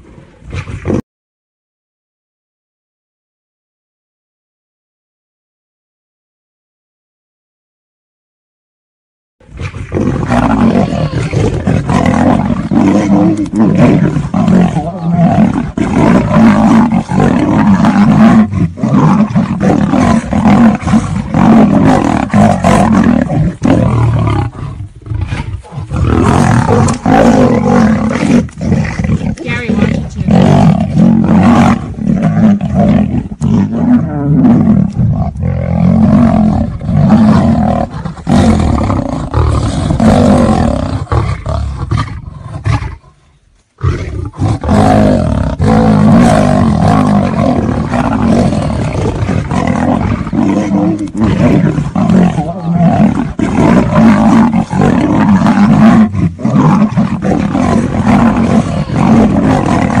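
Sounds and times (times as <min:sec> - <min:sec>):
big cats roaring and growling: 0:09.4 - 1:00.0.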